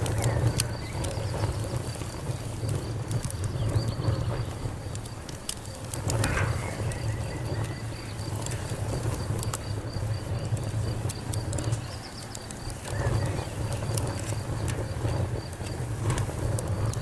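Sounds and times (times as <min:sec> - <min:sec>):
insect chirping: 0:00.0 - 0:17.0
wood fire crackling and popping: 0:00.0 - 0:17.0.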